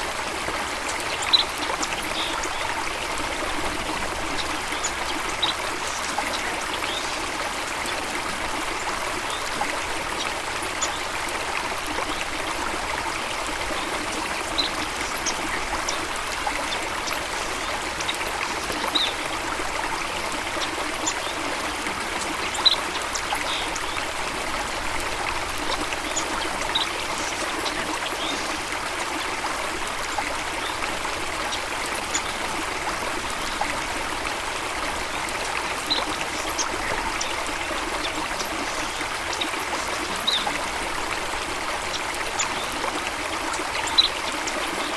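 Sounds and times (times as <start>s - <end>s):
water flowing: 0.0s - 44.9s.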